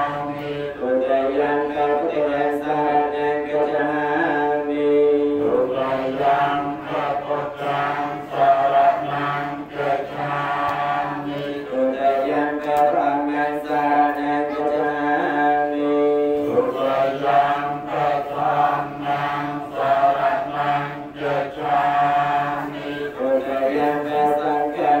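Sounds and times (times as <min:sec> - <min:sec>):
group chanting prayers: 0:00.0 - 0:25.0.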